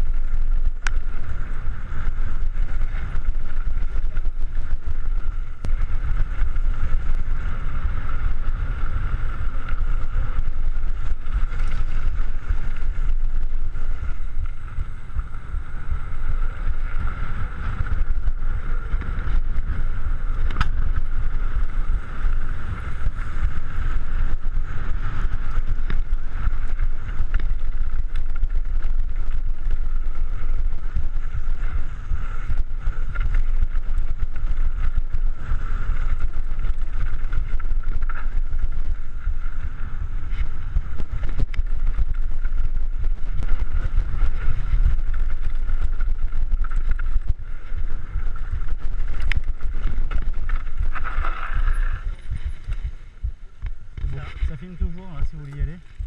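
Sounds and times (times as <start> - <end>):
bike tyres rumbling over dirt: 0.0 - 56.0
wind buffeting microphone: 0.0 - 56.0.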